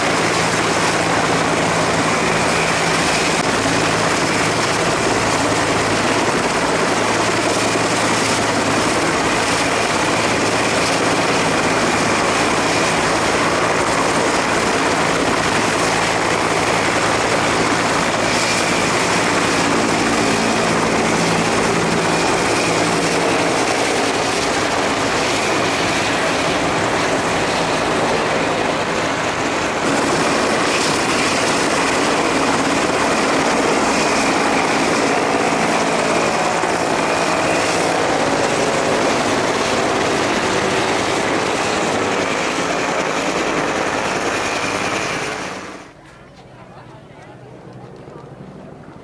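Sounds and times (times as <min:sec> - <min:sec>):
helicopter engines and rotors: 0:00.0 - 0:49.0.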